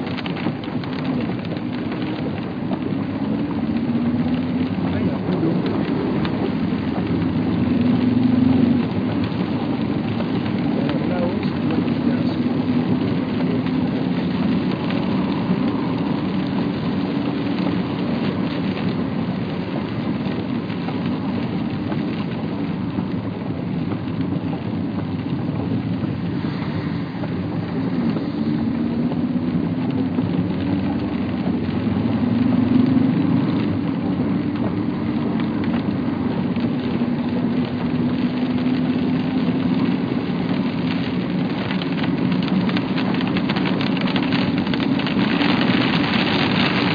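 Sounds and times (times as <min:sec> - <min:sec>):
low continuous rumble: 0:00.0 - 0:46.9
steady rain: 0:00.0 - 0:46.9.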